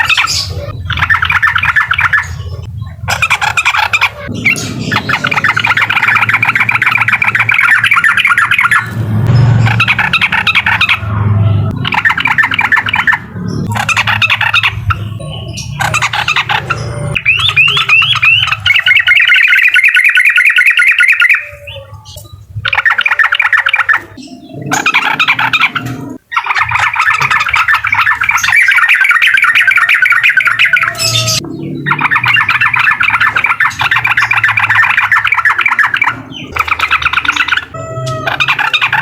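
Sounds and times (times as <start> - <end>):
bird chattering song: 0.0 - 39.0.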